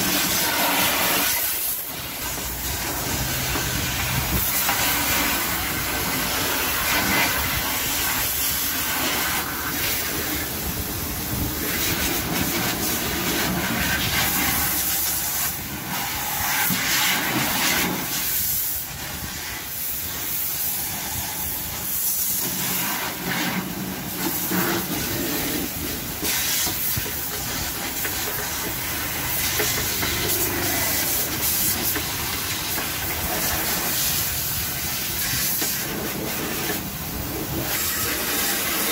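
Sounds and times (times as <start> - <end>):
water splashing on concrete: 0.0 - 15.7, 22.3 - 38.9
hose water jet spraying: 0.0 - 38.9.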